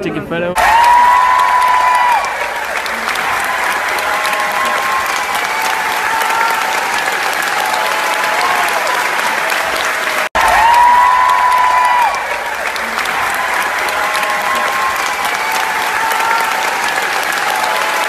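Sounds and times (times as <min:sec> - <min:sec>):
audience applauding: 0:00.6 - 0:18.0.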